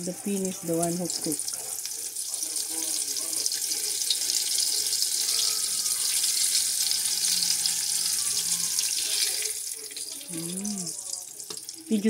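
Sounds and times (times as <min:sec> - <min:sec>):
onion rings sizzling in oil: 0:00.0 - 0:12.0.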